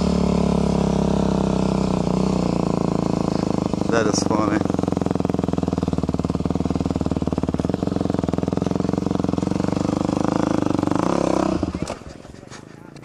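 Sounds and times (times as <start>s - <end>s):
dirt bike engine running: 0.0s - 12.4s.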